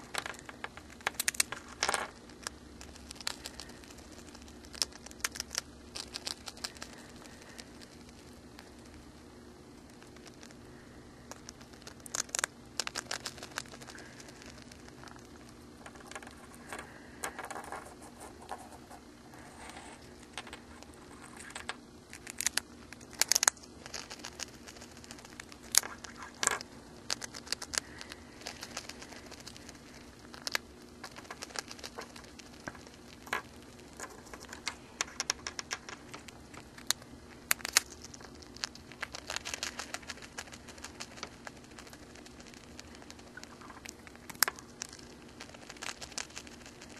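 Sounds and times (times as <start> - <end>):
hamster crunching cracker: 0.0 - 46.9.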